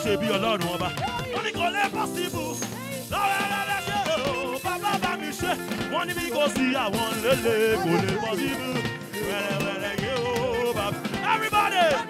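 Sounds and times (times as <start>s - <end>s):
backing voices: 0.0s - 12.0s
gospel band playing: 0.0s - 12.0s
held keyboard tones: 0.0s - 12.0s
man singing lead: 0.0s - 12.0s
percussion: 0.0s - 12.0s.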